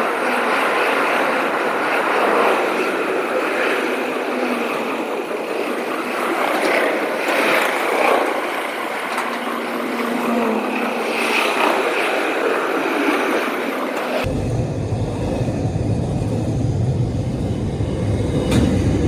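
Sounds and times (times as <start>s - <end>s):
freight train passing: 0.0s - 19.0s.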